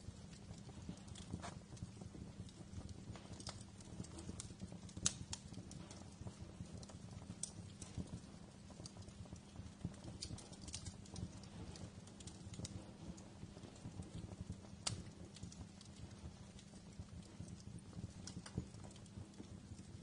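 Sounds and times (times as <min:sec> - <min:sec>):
low fire rumble: 0:00.0 - 0:20.0
wood fire popping and snapping: 0:00.0 - 0:20.0.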